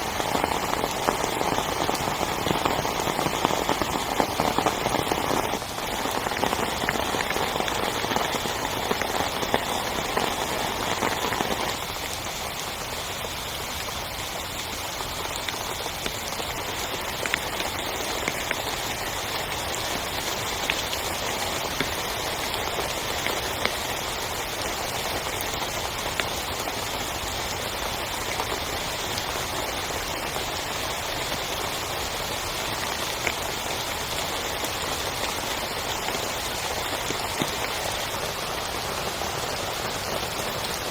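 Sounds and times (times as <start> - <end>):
heavy rain on a tent: 0.0 - 40.9.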